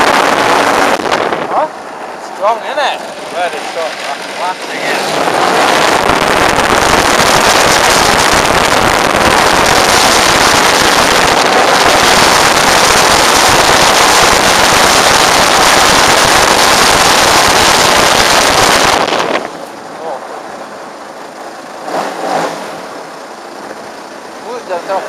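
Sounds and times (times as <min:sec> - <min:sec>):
model aircraft engine at full throttle: 0:02.4 - 0:23.6.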